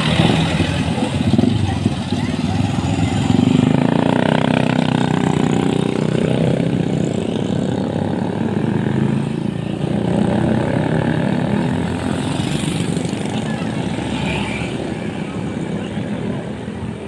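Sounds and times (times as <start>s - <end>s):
heavy vehicle engine running: 0.0s - 14.2s.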